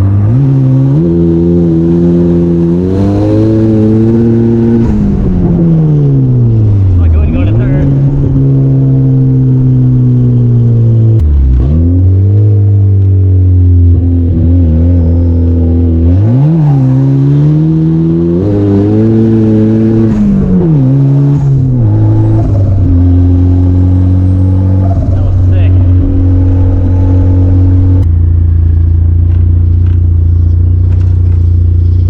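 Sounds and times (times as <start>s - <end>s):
turbocharged car engine revving: 0.0s - 32.0s.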